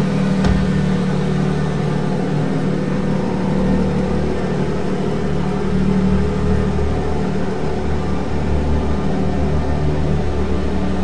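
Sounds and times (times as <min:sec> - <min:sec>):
sports car engine running: 0:00.0 - 0:09.3.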